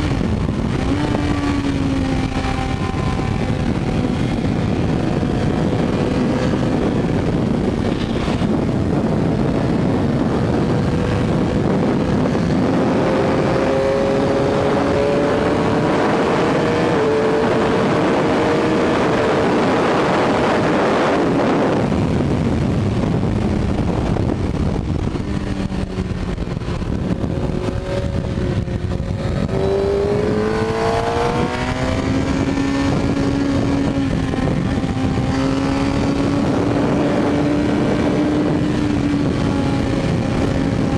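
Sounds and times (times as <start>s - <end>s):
motorcycle engine accelerating: 0.0s - 40.9s
wind rush: 0.0s - 40.9s.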